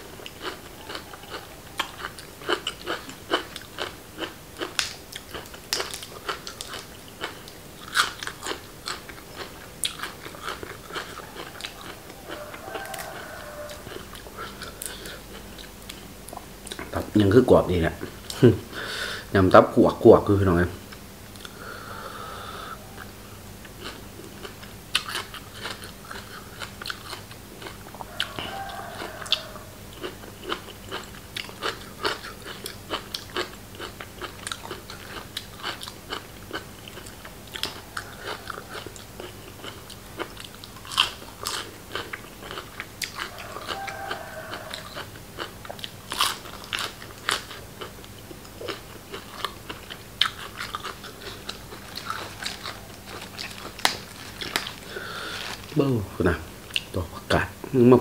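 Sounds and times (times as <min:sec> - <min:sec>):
crunching of crisp food: 0:00.0 - 0:18.6, 0:23.0 - 0:57.5
person chewing food: 0:00.0 - 0:19.2, 0:21.3 - 0:55.9, 0:56.7 - 0:57.0.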